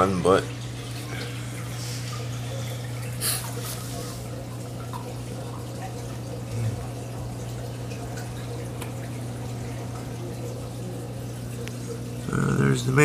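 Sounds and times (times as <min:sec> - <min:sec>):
aquarium pump hum: 0:00.0 - 0:13.0
water trickling and dripping: 0:00.0 - 0:13.0.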